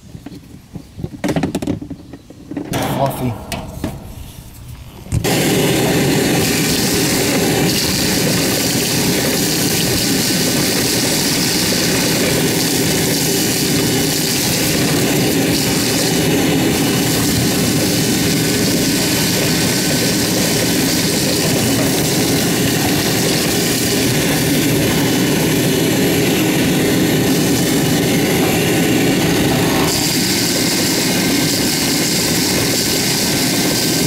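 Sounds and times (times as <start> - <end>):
shop vacuum sucking debris: 5.2 - 34.0.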